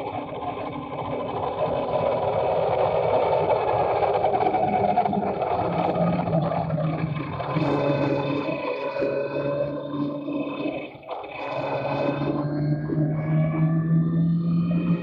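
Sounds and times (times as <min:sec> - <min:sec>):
low hum: 0:00.0 - 0:15.0
motor scooter engines: 0:00.0 - 0:15.0
scooter riding whir: 0:00.0 - 0:15.0.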